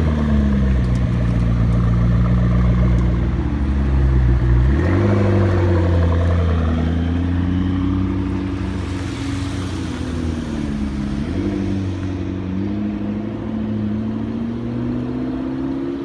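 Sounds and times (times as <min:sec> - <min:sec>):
car engine cruising: 0:00.0 - 0:16.0.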